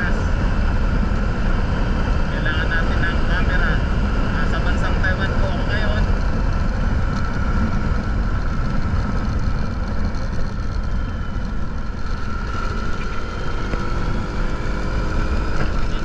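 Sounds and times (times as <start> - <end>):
motorcycle engine and road noise: 0.0 - 16.0
wind rumble on microphone: 0.0 - 16.0.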